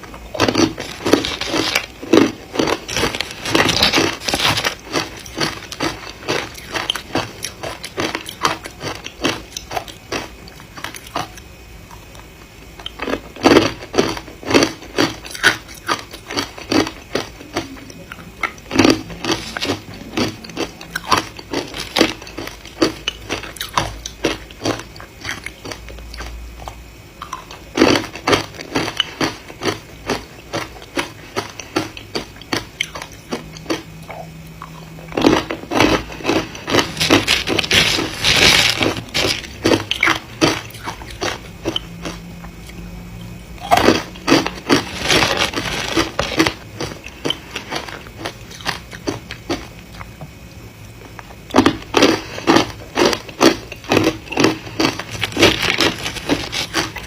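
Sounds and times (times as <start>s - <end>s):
person chewing ice: 0.0s - 12.2s, 12.8s - 42.8s, 43.6s - 50.1s, 50.9s - 57.0s.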